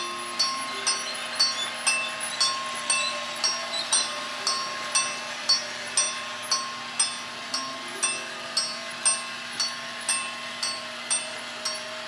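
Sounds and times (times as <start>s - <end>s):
toy train bell ringing: 0.0s - 12.0s
toy train motor hum: 0.0s - 12.0s.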